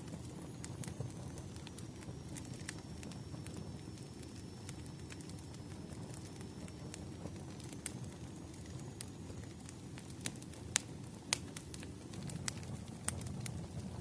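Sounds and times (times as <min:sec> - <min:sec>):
burning firewood crackling: 0:00.0 - 0:14.0.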